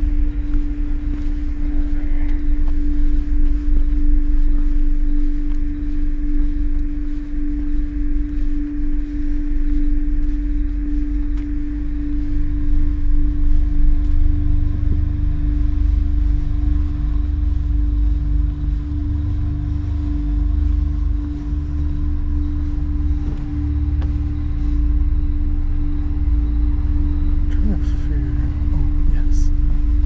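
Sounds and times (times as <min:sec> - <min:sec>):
low ambient horror music drone: 0:00.0 - 0:30.0.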